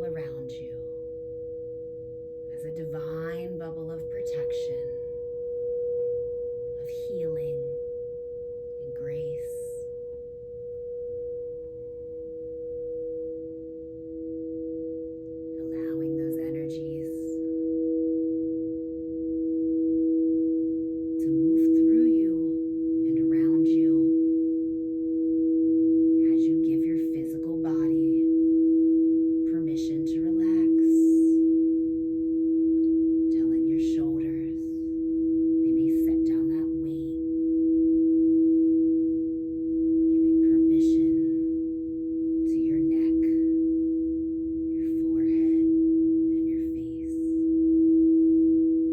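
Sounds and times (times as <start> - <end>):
singing bowl ringing: 0.0 - 42.5, 43.5 - 48.9.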